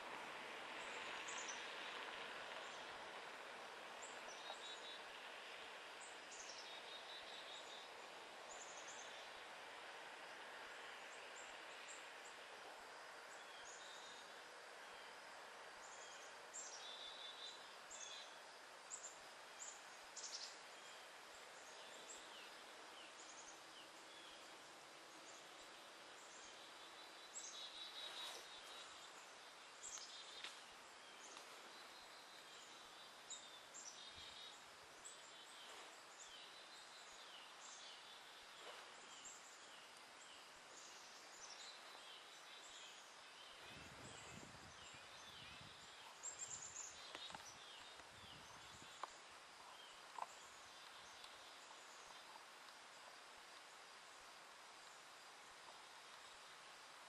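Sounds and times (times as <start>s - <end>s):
low hiss: 0.0s - 57.0s.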